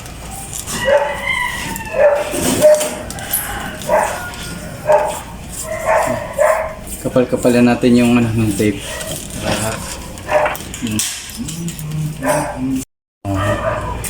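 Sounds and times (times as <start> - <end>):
dog barking and yipping: 0.3 - 8.1, 8.7 - 10.7, 12.1 - 14.0.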